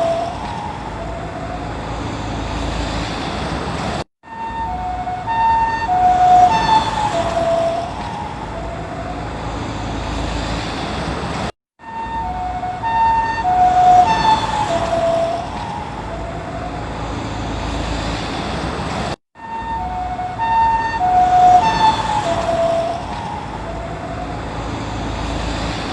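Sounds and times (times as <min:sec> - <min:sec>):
two-tone ambulance siren passing: 0:00.0 - 0:03.6, 0:04.2 - 0:11.1, 0:11.8 - 0:18.5, 0:19.4 - 0:25.9
traffic noise: 0:00.0 - 0:25.9.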